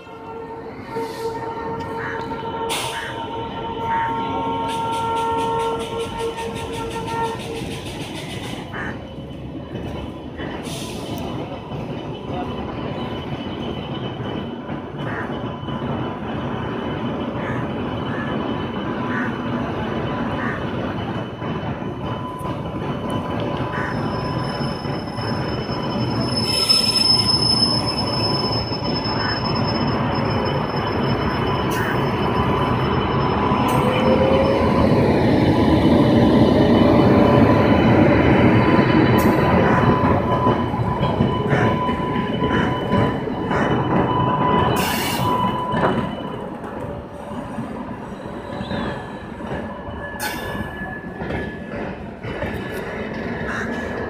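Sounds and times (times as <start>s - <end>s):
high wheel squeal: 0.0s - 54.0s
locomotive and wheels rumbling: 0.0s - 54.0s
train coaches clanking: 0.0s - 54.0s.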